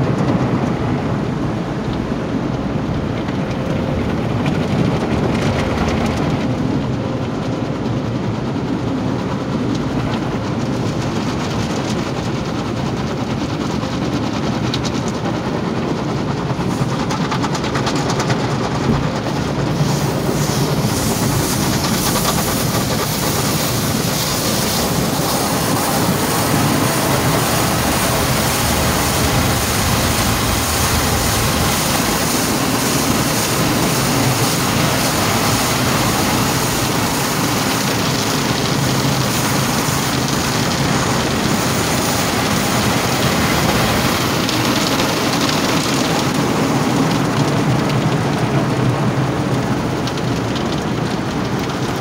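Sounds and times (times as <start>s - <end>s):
car wash spraying water: 0.0s - 52.0s.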